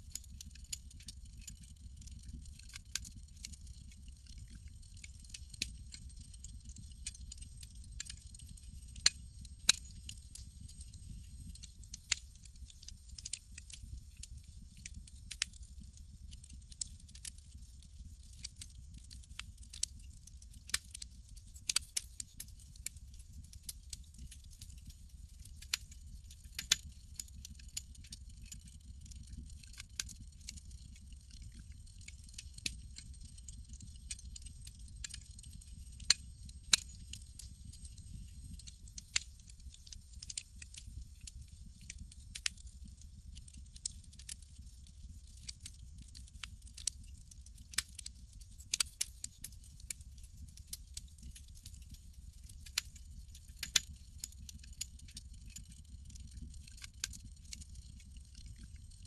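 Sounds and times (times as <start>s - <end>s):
campfire crackling and popping: 0.3s - 58.7s.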